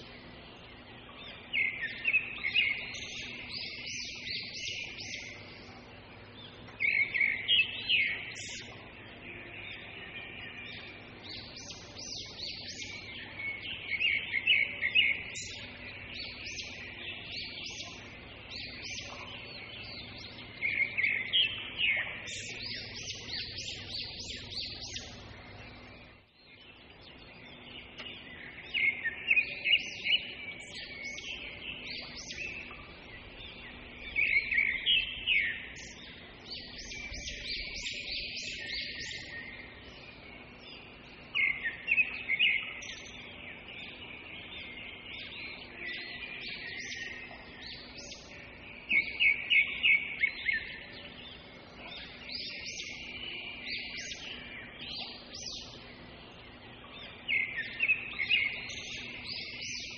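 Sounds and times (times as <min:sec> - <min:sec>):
birds chirping softly: 0:00.0 - 0:59.9
loud rapid bird chirps: 0:00.0 - 0:59.9.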